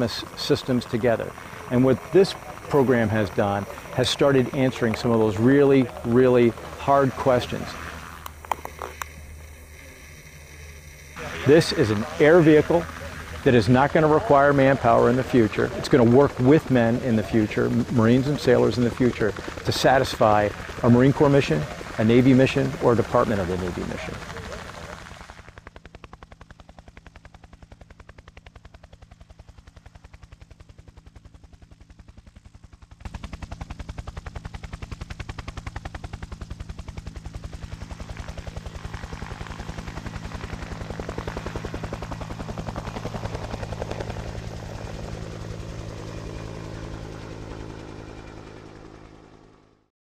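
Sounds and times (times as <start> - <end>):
helicopter rotor beating: 0.0 - 49.9.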